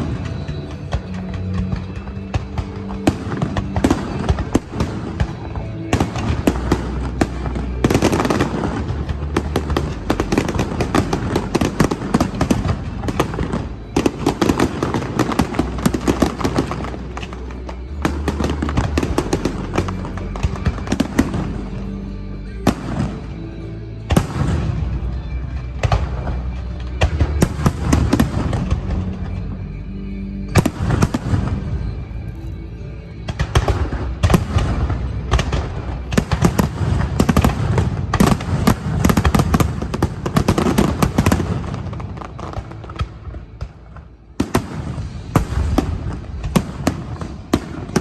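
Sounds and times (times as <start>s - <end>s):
fireworks loud bangs: 0.0s - 29.6s, 30.5s - 32.2s, 33.1s - 48.0s
fireworks crackling: 0.0s - 48.0s.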